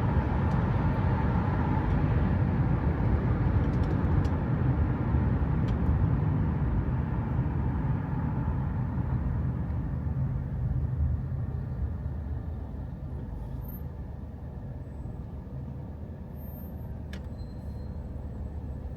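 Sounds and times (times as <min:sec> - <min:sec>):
low rumble of traffic: 0:00.0 - 0:18.9.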